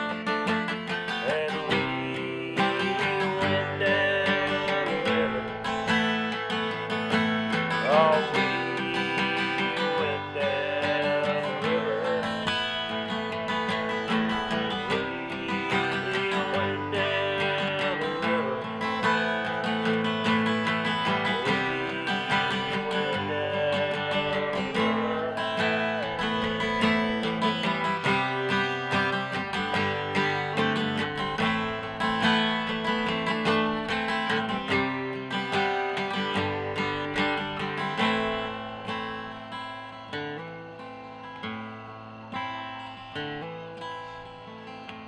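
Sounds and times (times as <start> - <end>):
acoustic guitar strumming: 0.0 - 45.0.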